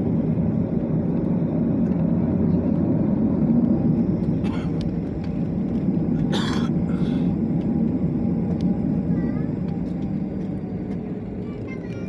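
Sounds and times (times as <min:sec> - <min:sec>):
jet cabin rumble: 0:00.0 - 0:12.0.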